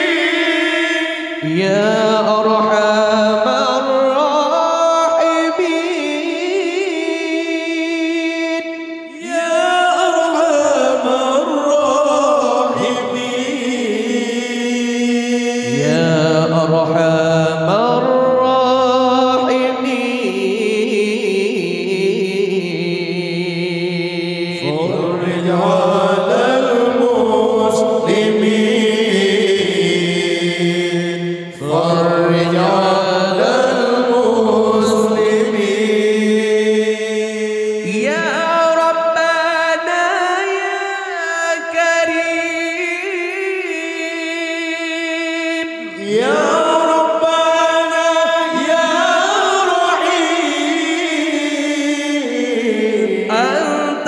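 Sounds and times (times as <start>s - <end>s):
lead voice melismatic singing: 0.0s - 54.0s
male vocal group singing: 0.0s - 54.0s.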